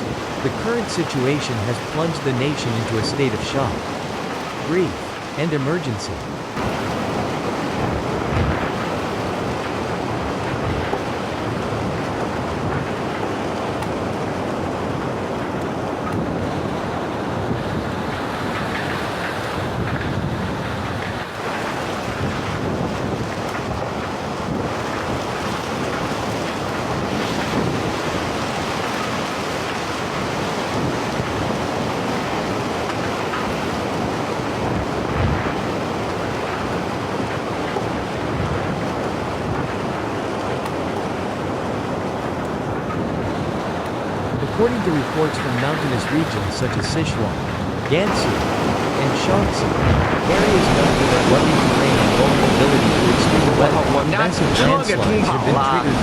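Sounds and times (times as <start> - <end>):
rushing floodwater roar: 0.0 - 56.0.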